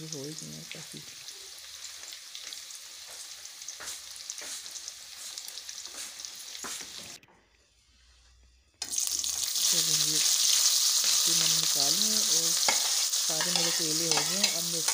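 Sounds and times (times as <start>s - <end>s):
food sizzling in hot oil: 0.0s - 7.2s, 8.8s - 14.9s.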